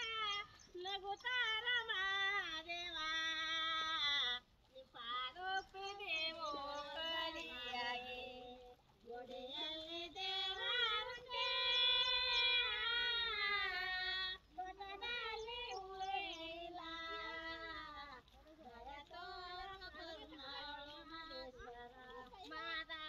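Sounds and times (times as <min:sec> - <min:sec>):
woman singing unaccompanied: 0:00.0 - 0:23.0.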